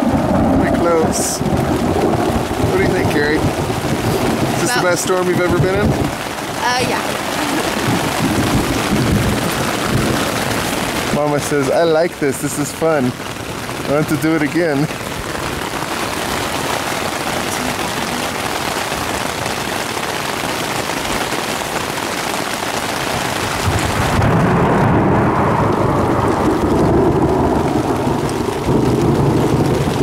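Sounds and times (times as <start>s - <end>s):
heavy rain: 0.0s - 30.0s
thunder rumbling: 0.0s - 30.0s.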